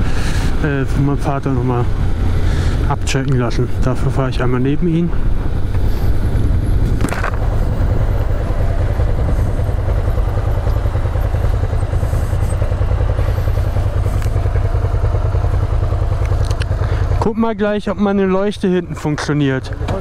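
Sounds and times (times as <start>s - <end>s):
motorcycle engine low rumble: 0.0s - 20.0s
road noise: 0.0s - 20.0s.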